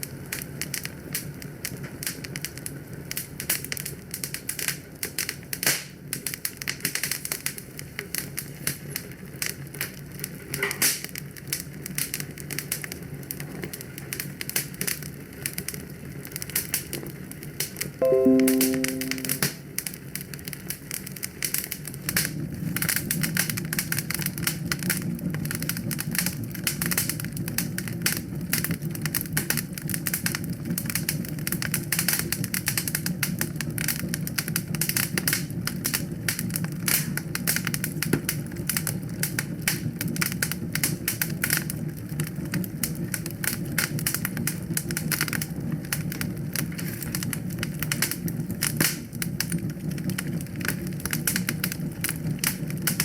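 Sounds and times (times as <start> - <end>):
wood fire crackling: 0.0 - 17.9, 22.1 - 53.0.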